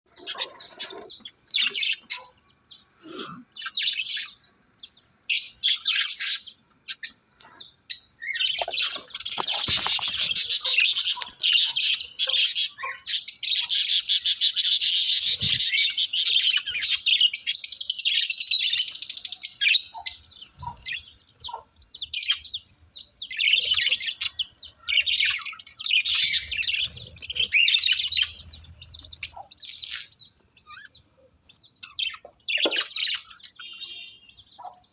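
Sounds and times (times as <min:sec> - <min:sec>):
budgerigars chirping and warbling: 0:00.1 - 0:02.9, 0:03.6 - 0:34.9.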